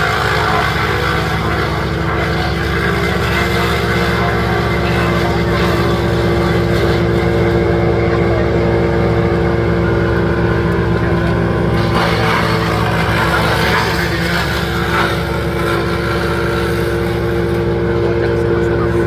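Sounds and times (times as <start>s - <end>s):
large engine droning: 0.0s - 19.0s
rough noise: 0.0s - 19.0s.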